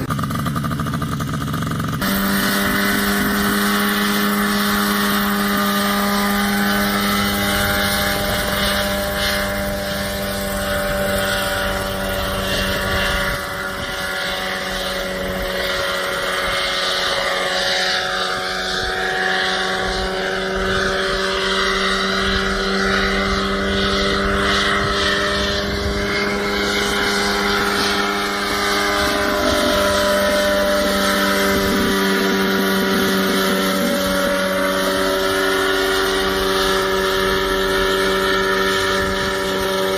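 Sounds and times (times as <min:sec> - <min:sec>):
helicopter engine and rotors running: 0:00.0 - 0:39.9.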